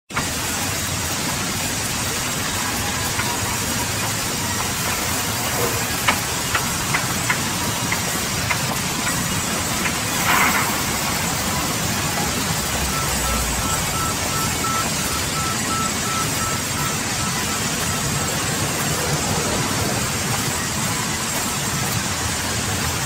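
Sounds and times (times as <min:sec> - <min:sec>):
rush of noise: 0:00.1 - 0:23.0
sawmill machinery hissing: 0:00.1 - 0:23.0.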